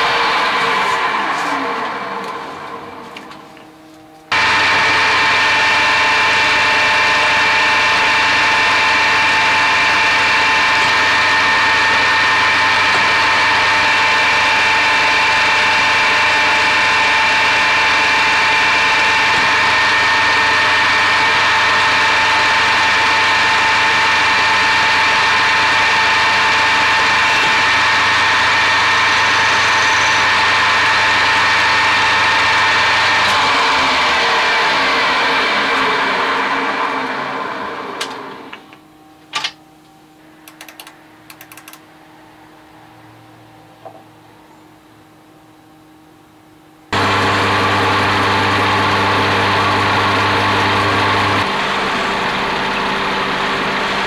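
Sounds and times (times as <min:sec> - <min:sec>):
metal lathe whine: 0:00.0 - 0:39.3, 0:46.9 - 0:54.0.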